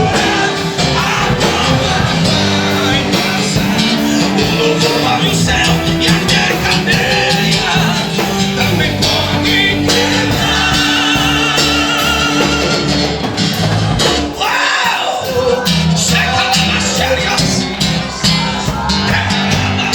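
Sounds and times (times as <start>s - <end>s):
drums: 0.0s - 19.9s
gospel band music: 0.0s - 19.9s
guitar: 0.0s - 19.9s.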